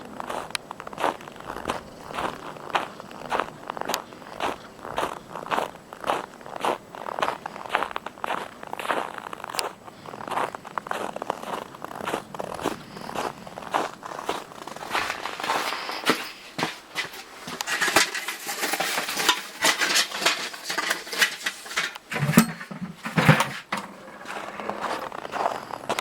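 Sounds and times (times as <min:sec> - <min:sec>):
footsteps crunching in snow: 0:00.0 - 0:26.0.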